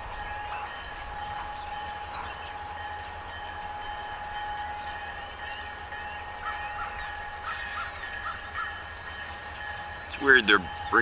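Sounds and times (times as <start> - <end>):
bird calling: 0.0 - 11.0
locomotive bell ringing: 0.0 - 11.0
locomotive engine rumble: 0.0 - 11.0.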